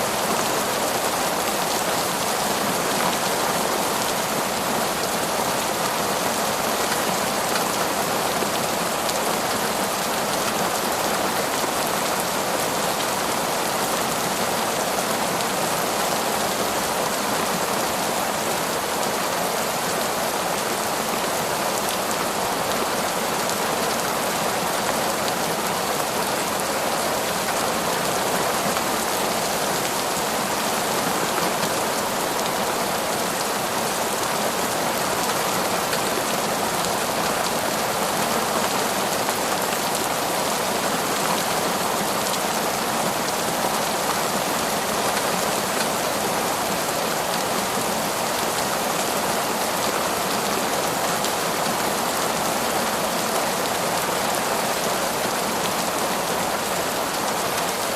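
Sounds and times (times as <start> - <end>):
heavy torrential rain: 0.0 - 57.9.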